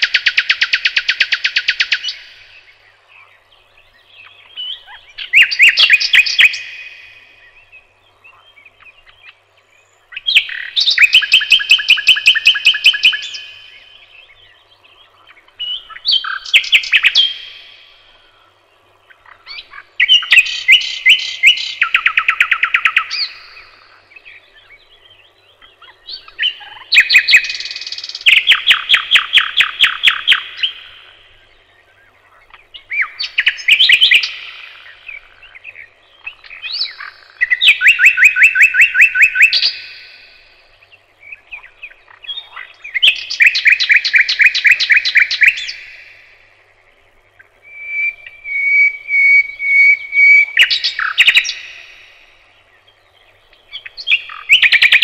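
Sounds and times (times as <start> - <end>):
songbird singing trills: 0.0 - 55.0.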